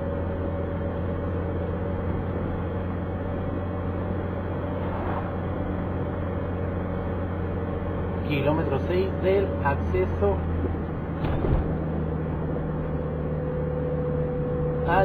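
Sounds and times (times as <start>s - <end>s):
car engine and tyre drone: 0.0s - 15.0s.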